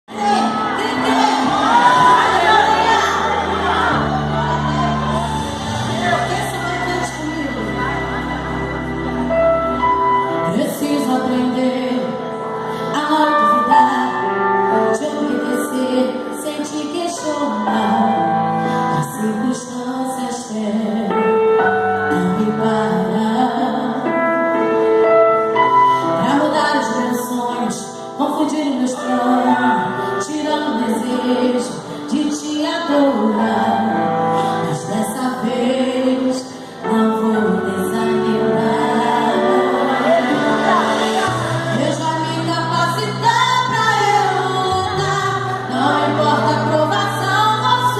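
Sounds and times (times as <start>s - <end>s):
woman singing with music: 0.1s - 47.9s.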